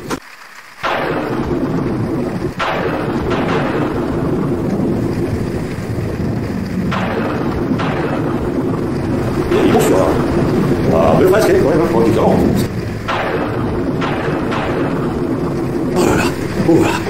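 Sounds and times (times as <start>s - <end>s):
heavy rain: 0.0s - 17.0s
thunder rumbling: 0.8s - 17.0s.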